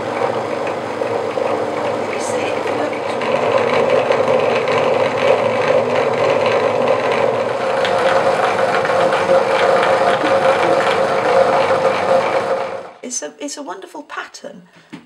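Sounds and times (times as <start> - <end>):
fast fine mechanical rattle: 0.0 - 13.0
power drill humming: 0.0 - 13.0.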